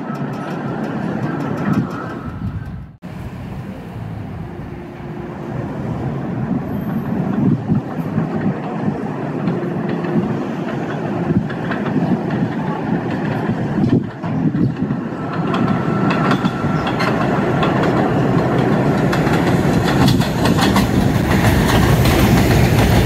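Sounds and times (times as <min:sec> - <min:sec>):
subway train wheels rumbling on rail: 0:00.0 - 0:23.0.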